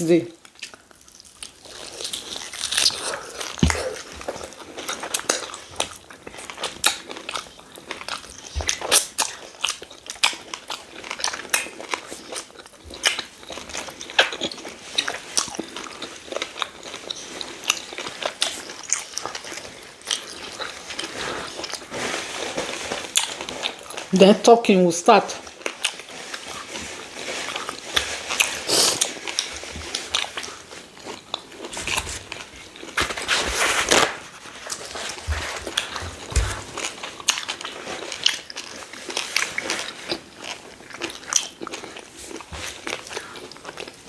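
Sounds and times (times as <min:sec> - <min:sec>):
chewing food: 0:00.4 - 0:24.4, 0:25.2 - 0:33.2, 0:34.0 - 0:44.0.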